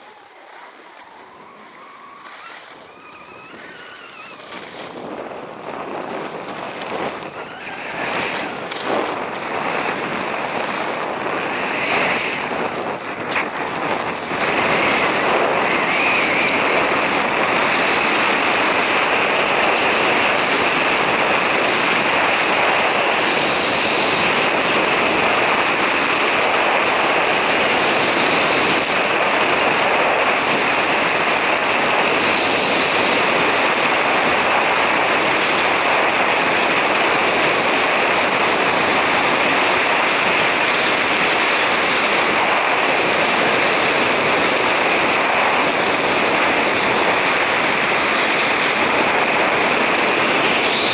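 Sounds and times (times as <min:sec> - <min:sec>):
skis on packed snow: 0:00.0 - 0:50.9
wind on microphone: 0:00.0 - 0:50.9.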